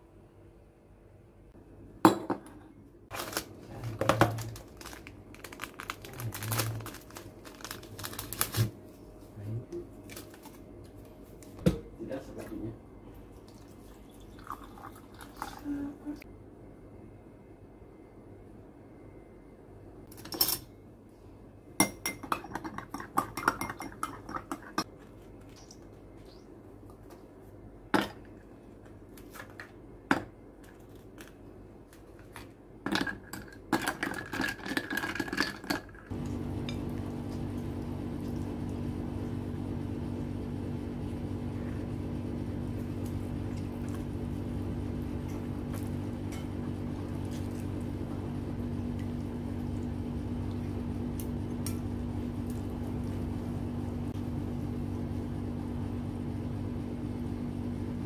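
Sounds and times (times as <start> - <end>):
steady low hum: 0.0 - 32.8, 35.9 - 58.0.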